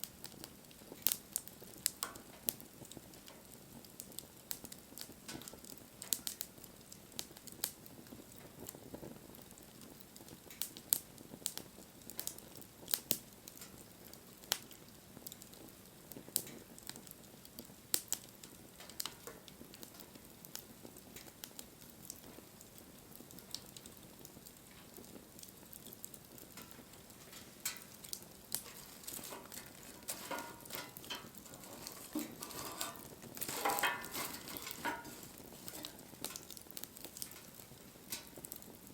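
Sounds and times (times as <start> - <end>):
fire sizzling and hissing: 0.0 - 38.9
wood fire crackling: 0.0 - 38.9.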